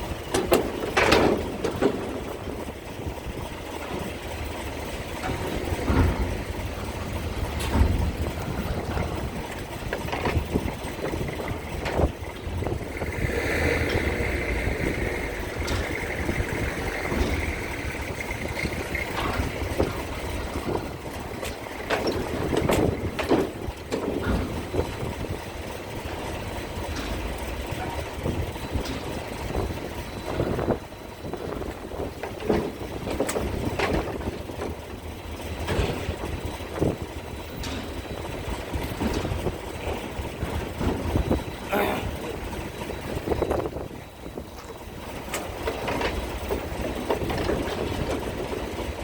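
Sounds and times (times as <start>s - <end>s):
heavy engines rumbling: 0.0s - 49.0s
knocks and clanks: 0.0s - 49.0s.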